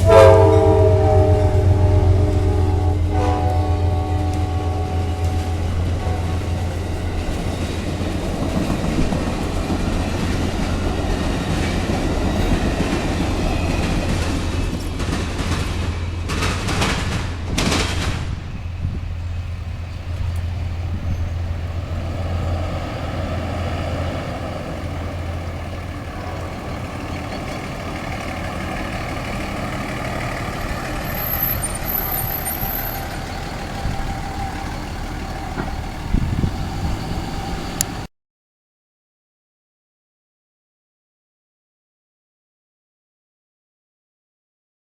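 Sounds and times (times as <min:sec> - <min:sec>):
train engine drone: 0:00.0 - 0:38.1
train rolling rail noise: 0:00.0 - 0:38.1.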